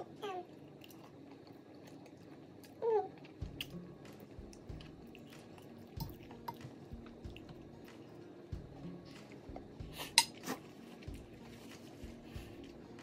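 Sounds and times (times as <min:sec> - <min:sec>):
person chewing pasta: 0:00.5 - 0:13.0.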